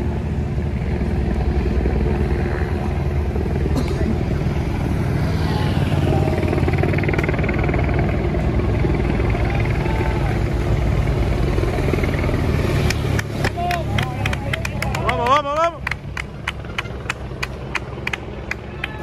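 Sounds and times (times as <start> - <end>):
motorcycle and car engines passing: 0.0 - 19.0.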